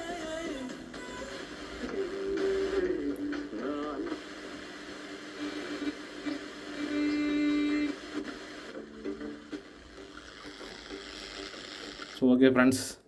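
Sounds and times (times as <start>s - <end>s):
song playing on radio speaker: 0.0s - 12.4s
faint radio reception hiss: 0.0s - 13.0s.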